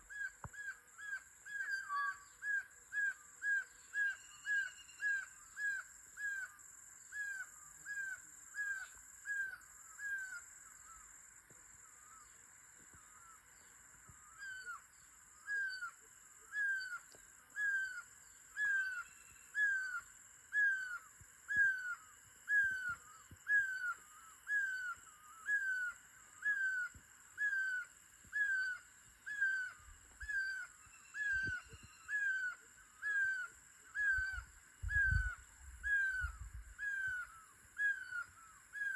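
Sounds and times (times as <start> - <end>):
steady high-pitched hiss: 0.0 - 38.9.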